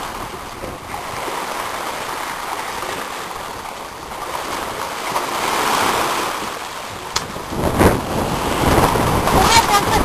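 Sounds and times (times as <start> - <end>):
small waves washing: 0.0 - 10.0.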